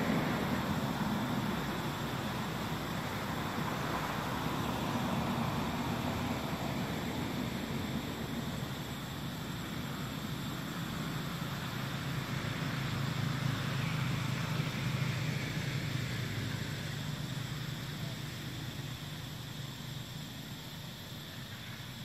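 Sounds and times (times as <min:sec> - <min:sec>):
faint high whine: 0:00.0 - 0:22.0
low outdoor rumble: 0:00.0 - 0:22.0.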